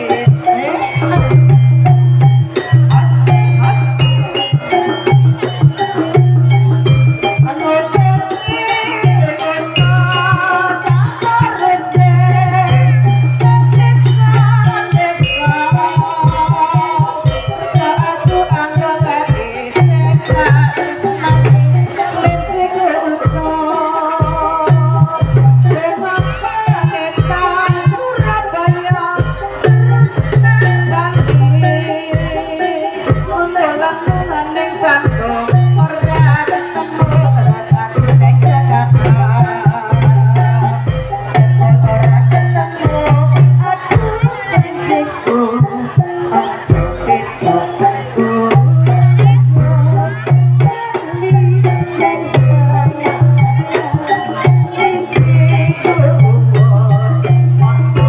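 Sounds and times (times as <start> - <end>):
drums beating quick rhythm: 0.0 - 58.0
gamelan ensemble playing: 0.0 - 58.0
wavering melodic line: 0.0 - 58.0.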